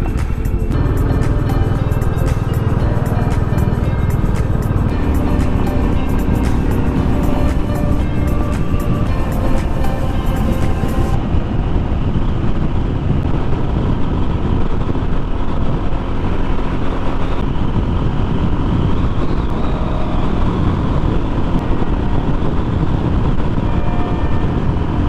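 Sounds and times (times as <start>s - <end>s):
motorcycle engine running: 0.0s - 25.0s
wind rush and road noise: 0.0s - 25.0s.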